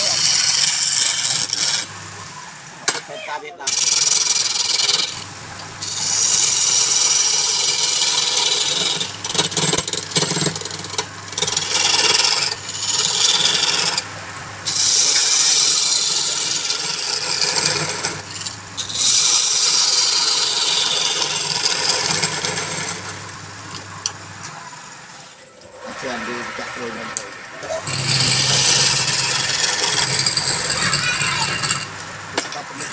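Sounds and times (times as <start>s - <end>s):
turning tool scraping wood: 0.0s - 1.9s, 3.7s - 14.1s, 14.7s - 24.0s, 27.6s - 32.9s
wood lathe motor humming: 0.0s - 2.8s, 3.6s - 32.9s.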